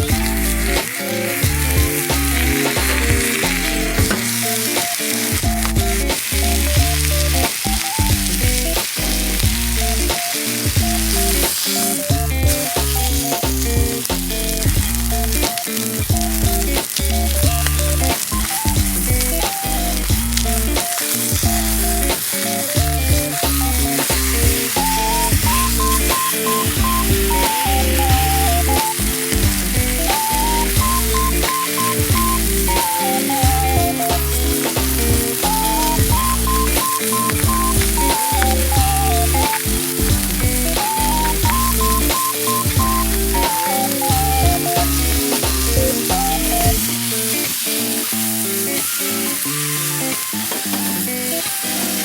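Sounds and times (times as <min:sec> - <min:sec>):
background music with beat: 0:00.0 - 0:52.0
food sizzling in a pan: 0:00.0 - 0:52.0.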